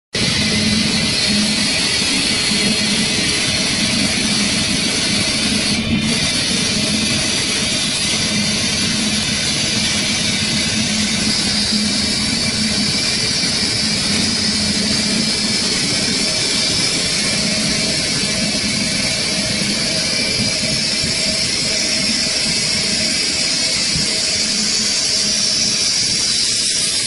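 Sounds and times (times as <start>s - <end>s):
wood being cut: 0.2s - 27.0s
wood lathe machine hum: 0.2s - 27.0s.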